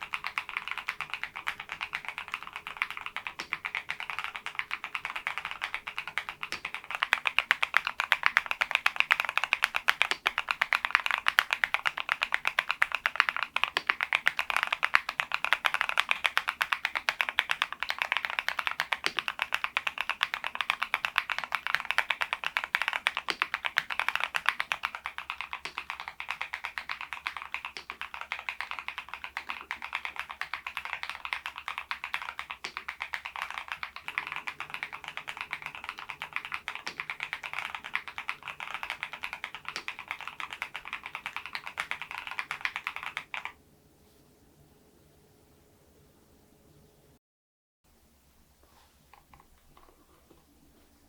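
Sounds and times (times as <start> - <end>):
mechanical keyboard typing: 0.0 - 43.6.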